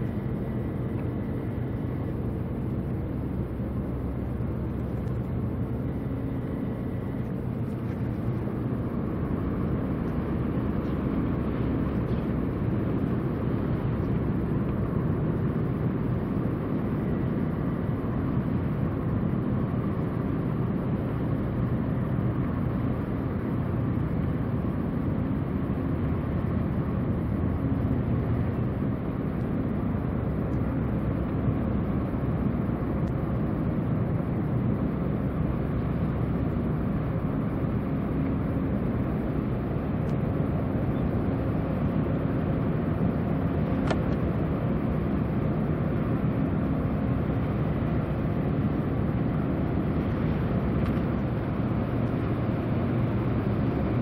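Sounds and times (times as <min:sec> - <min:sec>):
open harbour air background: 0:00.0 - 0:54.0
ship engine low rumbling drone: 0:00.0 - 0:54.0.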